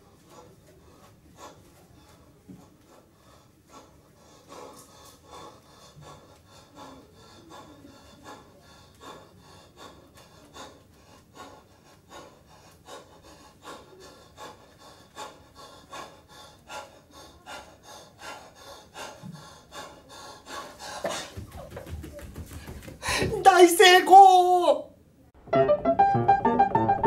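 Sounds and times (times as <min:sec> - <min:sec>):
man breathing hard: 0:00.0 - 0:21.6, 0:22.5 - 0:23.4.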